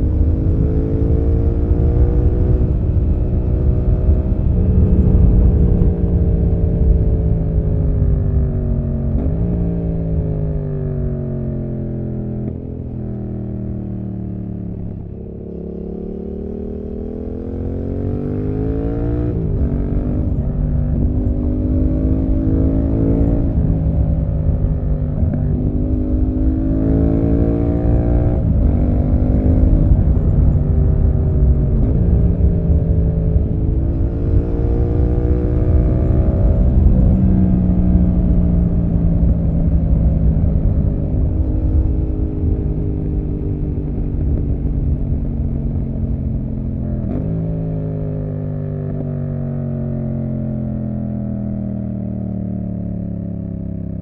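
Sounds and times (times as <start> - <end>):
motorcycle engine revving through gears: 0.0 - 54.0
road rumble: 0.0 - 54.0
wind: 0.0 - 54.0.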